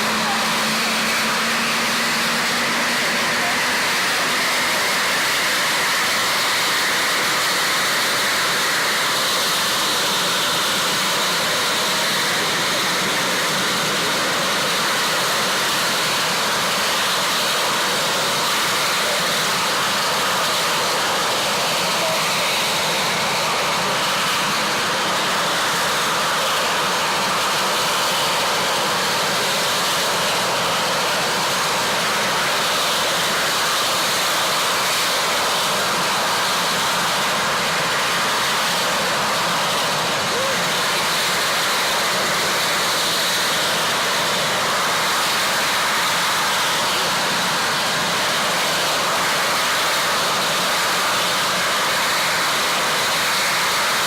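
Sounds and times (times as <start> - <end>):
helicopter turbine and rotors: 0.0 - 54.0.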